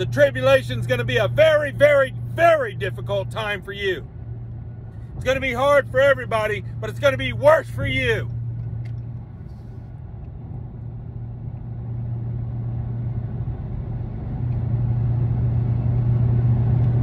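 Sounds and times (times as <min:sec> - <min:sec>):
moving vehicle rumble: 0:00.0 - 0:17.0.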